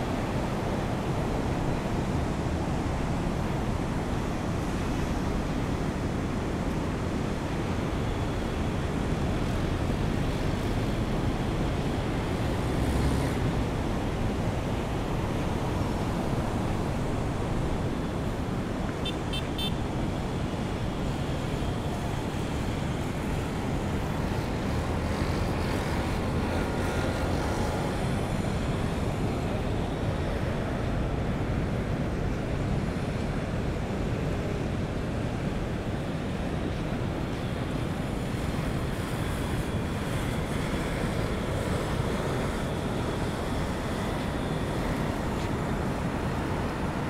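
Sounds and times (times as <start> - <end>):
road traffic: 0.0 - 47.0.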